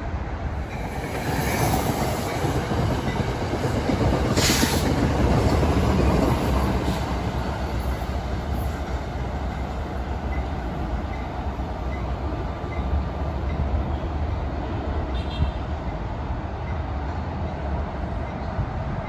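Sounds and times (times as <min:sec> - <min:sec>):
train rumbling on tracks: 0:00.0 - 0:19.0.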